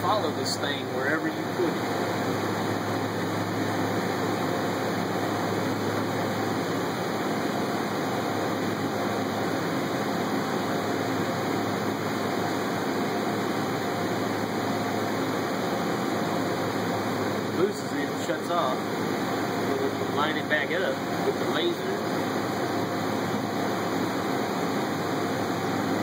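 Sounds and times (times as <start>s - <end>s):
machine shop hum and hiss: 0.0s - 26.0s.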